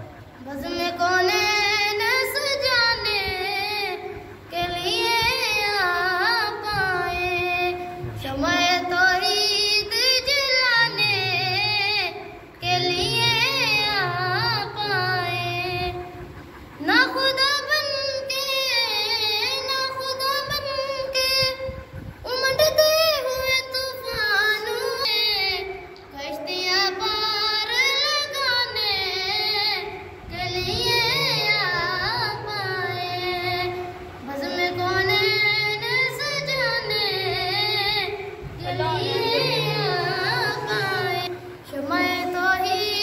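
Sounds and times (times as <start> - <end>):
boy singing solo: 0.3 - 43.0.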